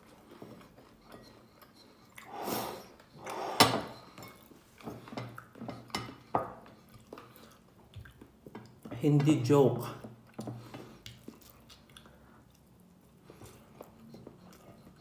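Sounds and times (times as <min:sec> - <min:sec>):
soft rustling of food: 0:00.0 - 0:02.3, 0:04.1 - 0:15.0.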